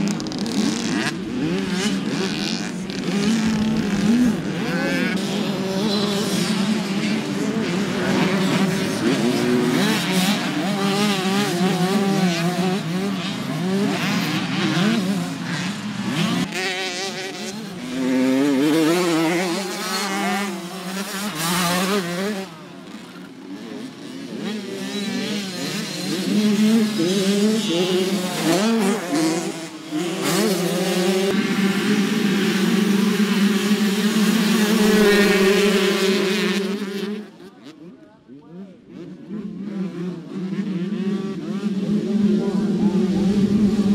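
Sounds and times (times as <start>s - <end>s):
motocross bikes revving: 0.0s - 43.9s.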